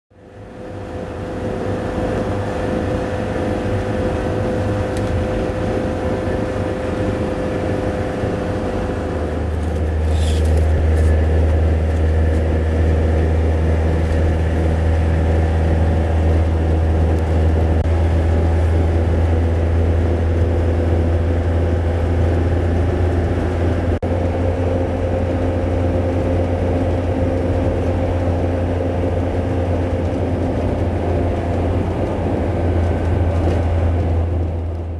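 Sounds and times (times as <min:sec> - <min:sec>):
road and engine drone inside vehicle: 0:00.1 - 0:34.9.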